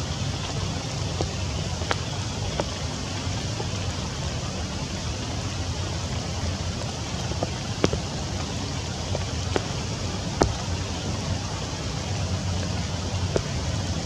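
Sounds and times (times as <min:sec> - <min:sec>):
rain on foliage: 0:00.0 - 0:14.0.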